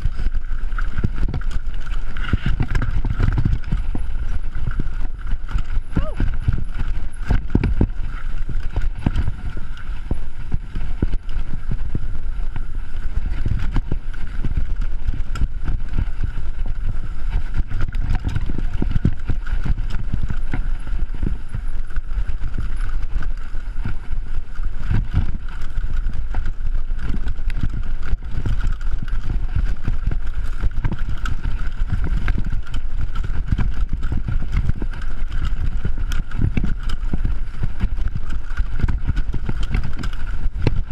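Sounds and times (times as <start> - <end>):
bike rattling and knocking: 0.0 - 40.9
tyres rumbling over dirt: 0.0 - 40.9.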